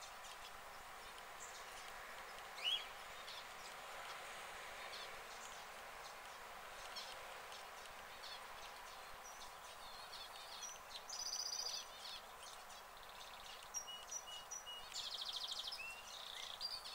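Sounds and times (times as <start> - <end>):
background hiss: 0.0 - 16.9
small birds chirping: 0.0 - 16.9.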